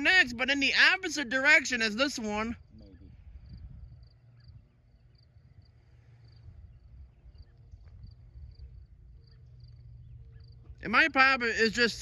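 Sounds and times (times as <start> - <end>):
low rumble of wind: 0.0 - 12.0.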